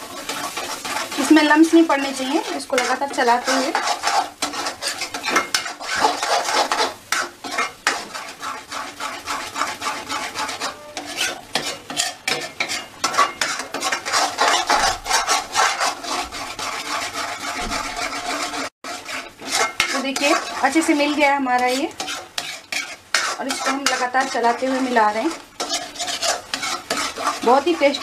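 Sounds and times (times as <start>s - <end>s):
metal spatula scraping steel pan: 0.0s - 28.0s.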